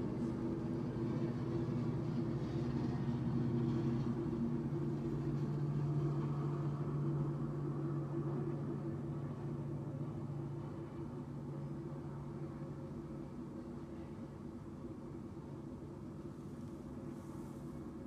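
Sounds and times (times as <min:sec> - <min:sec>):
diesel trains passing: 0:00.0 - 0:18.0.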